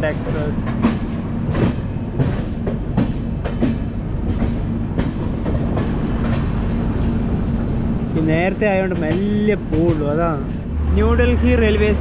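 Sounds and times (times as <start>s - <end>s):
train wheels clacking over rail joints: 0.0s - 6.8s, 8.2s - 12.0s.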